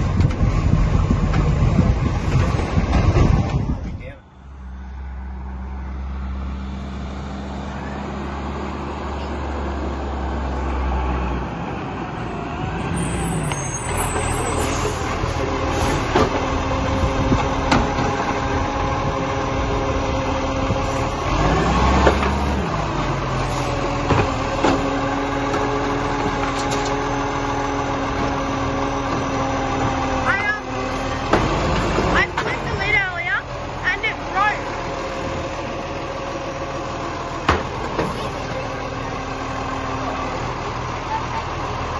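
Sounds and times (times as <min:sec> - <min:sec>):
garbage truck engine running: 0:00.0 - 0:41.9.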